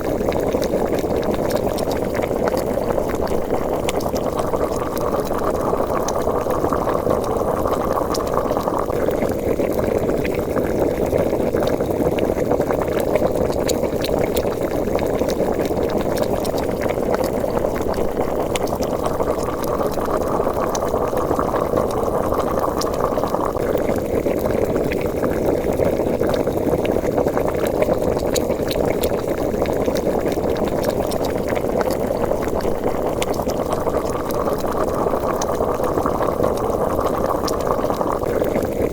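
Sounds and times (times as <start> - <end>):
liquid boiling and bubbling: 0.0 - 38.9.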